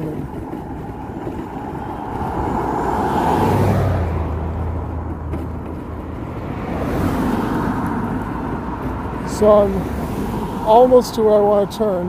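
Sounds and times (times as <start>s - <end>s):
vehicle passing by: 0.0s - 11.7s.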